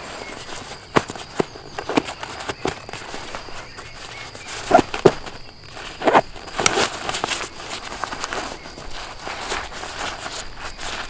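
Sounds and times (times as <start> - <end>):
nylon fabric rustling and crinkling: 0.0 - 11.0.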